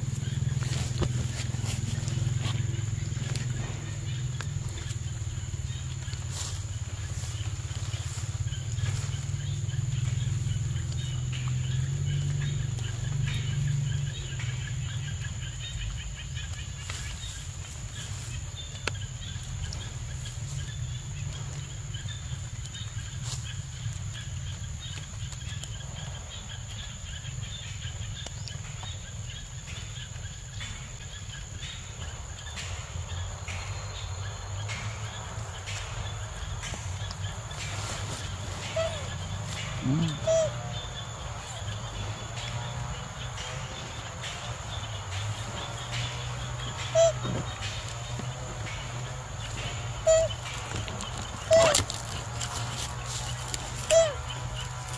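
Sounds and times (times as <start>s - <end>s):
bird chirps: 0.0s - 54.9s
insect drone: 0.0s - 54.9s
low rumble: 0.0s - 54.9s.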